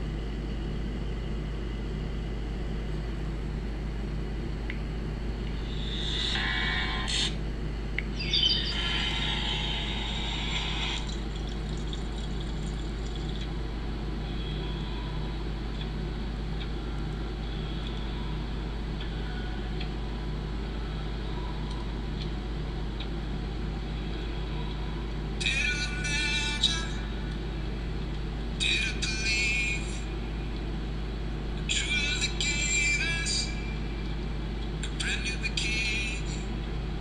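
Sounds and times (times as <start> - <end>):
low electrical hum with hiss: 0.0 - 37.0.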